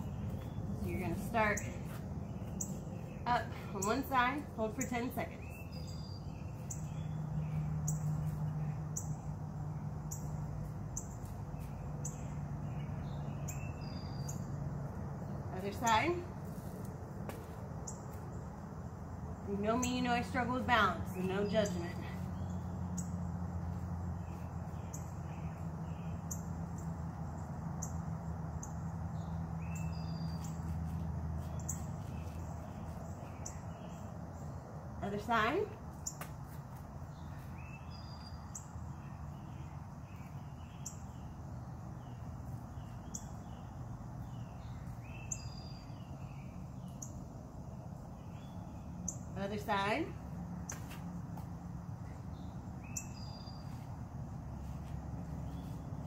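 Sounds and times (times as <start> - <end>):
bird chirping: 0.0 - 16.3, 19.4 - 36.3, 37.0 - 50.0, 50.6 - 56.0
steady low hum: 0.0 - 56.0.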